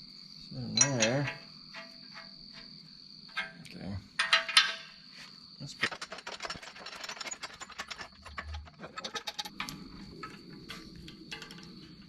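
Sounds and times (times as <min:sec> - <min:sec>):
metallic clicks of engine parts and tools: 0:00.7 - 0:05.0, 0:05.8 - 0:12.0.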